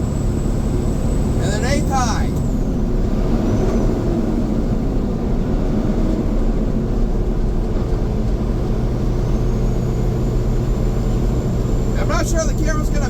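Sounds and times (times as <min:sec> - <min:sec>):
road noise: 0:00.0 - 0:13.0
truck diesel engine drone: 0:00.0 - 0:13.0.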